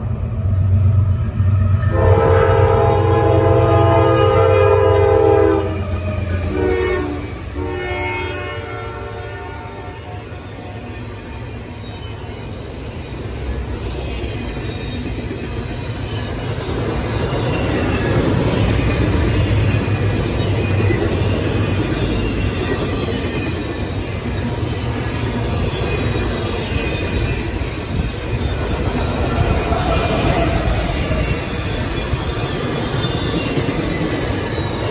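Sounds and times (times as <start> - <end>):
train wheels rumbling on rail: 0.0 - 34.9
high wheel squeal: 4.5 - 34.9.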